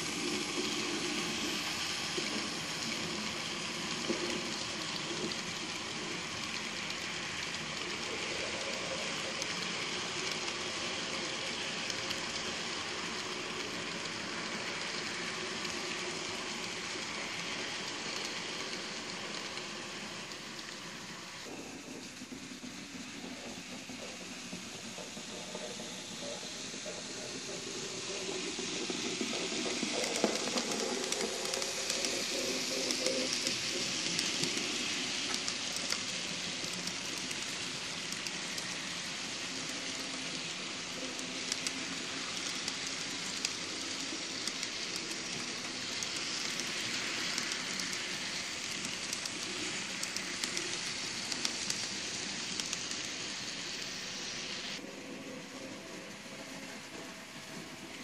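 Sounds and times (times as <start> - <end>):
model train wheels rattling: 0.0 - 54.8.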